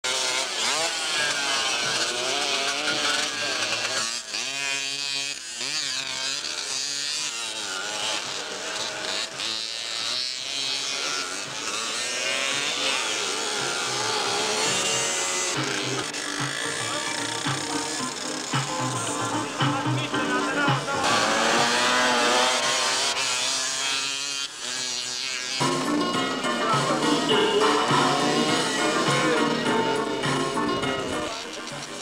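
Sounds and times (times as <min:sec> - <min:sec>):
motocross motorcycles revving: 0:00.0 - 0:32.0.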